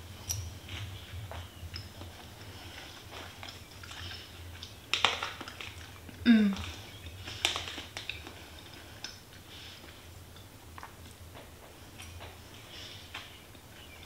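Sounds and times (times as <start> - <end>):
quiet chewing: 0.2 - 14.0.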